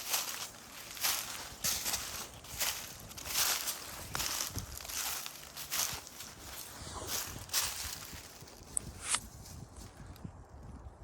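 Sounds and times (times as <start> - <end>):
footsteps scuffing on path: 0.0 - 9.9.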